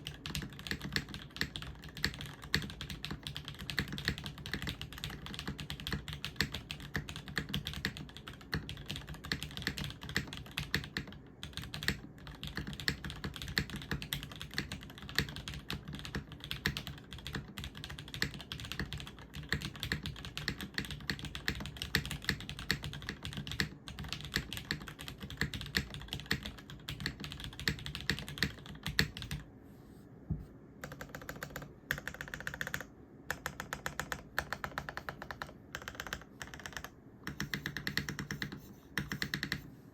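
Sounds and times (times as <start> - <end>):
mechanical keyboard typing: 0.0 - 29.4, 30.8 - 39.7.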